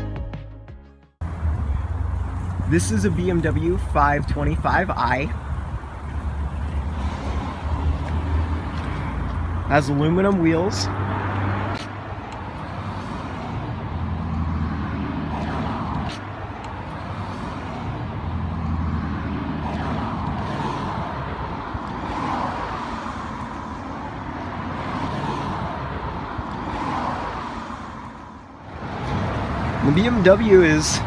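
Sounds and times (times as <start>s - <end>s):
road traffic engines humming: 1.2s - 31.0s.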